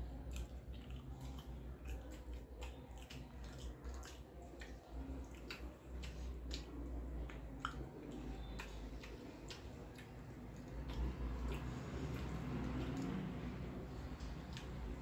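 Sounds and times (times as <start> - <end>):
fingers squishing wet food: 0.0 - 15.0.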